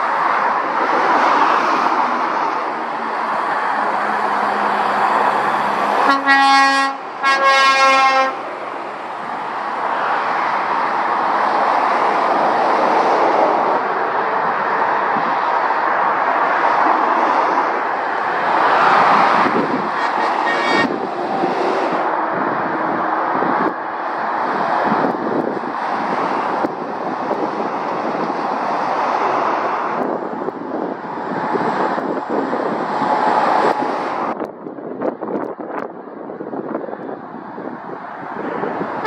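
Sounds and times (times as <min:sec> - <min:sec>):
traffic passing on highway: 0:00.0 - 0:39.0.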